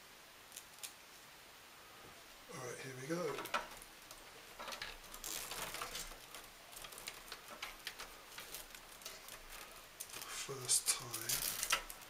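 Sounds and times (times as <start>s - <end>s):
cables rustling and scraping: 2.0s - 12.0s.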